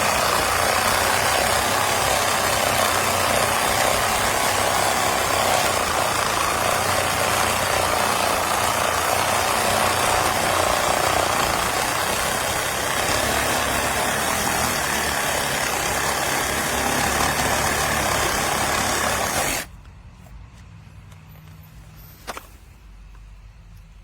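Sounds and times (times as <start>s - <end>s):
reciprocating saw cutting: 0.0s - 19.7s.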